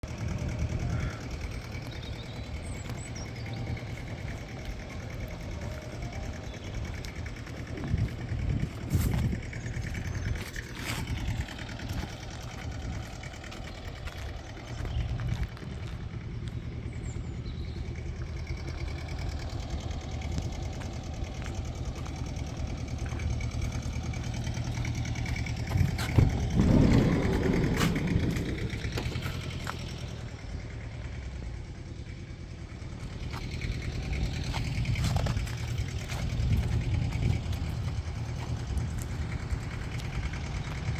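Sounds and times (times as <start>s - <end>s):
vehicle engine idling: 0.0s - 40.9s.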